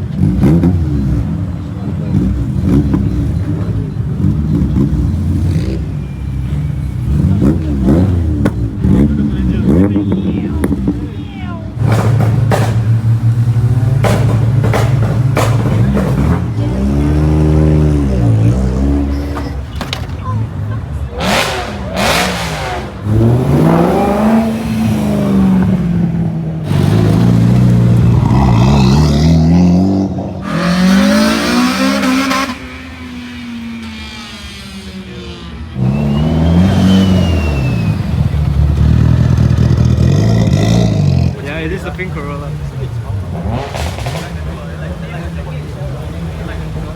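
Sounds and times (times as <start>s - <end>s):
car engine idling and revving: 0.0s - 46.9s.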